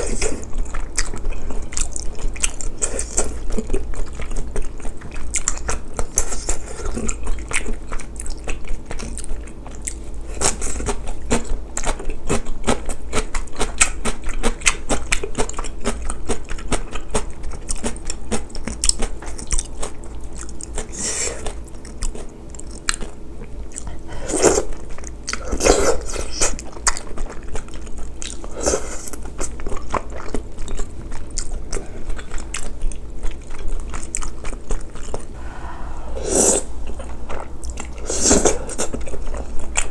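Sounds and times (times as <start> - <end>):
chewing with wet smacks: 0.0 - 35.5, 36.7 - 39.9.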